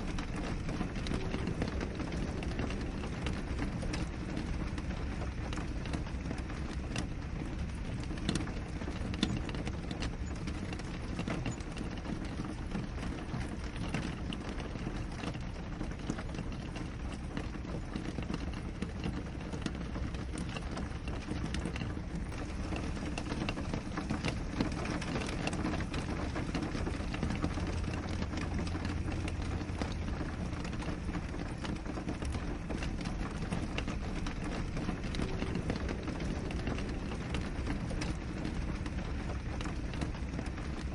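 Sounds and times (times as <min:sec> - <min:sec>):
rain drops ticking on a window: 0:00.0 - 0:40.9.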